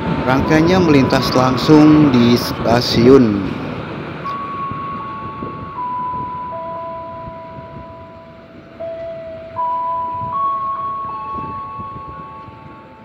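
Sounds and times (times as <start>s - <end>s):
train rumble: 0.0s - 13.0s
electronic chime melody: 0.3s - 2.4s, 4.2s - 13.0s.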